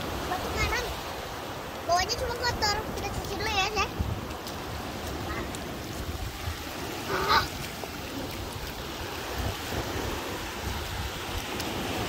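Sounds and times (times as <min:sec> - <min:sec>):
surf washing over sand: 0:00.0 - 0:12.0
wind on microphone: 0:00.0 - 0:12.0.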